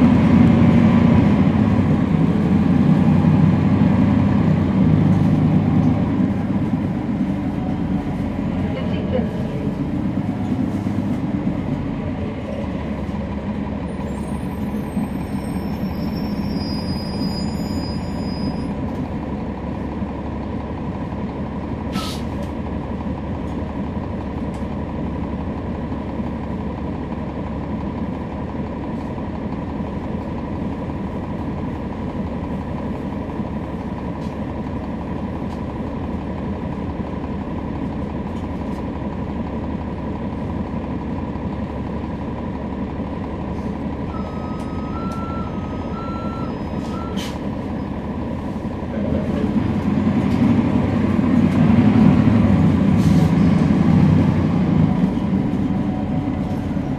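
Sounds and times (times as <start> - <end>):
bus diesel engine droning: 0.0 - 56.9.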